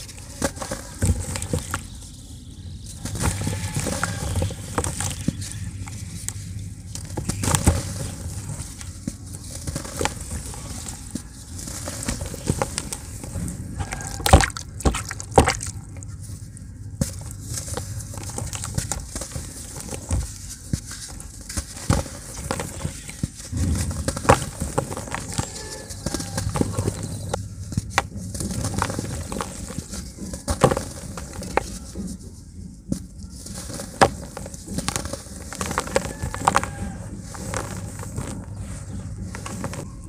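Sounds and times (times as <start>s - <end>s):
cement crunching and crackling: 0.0s - 40.0s.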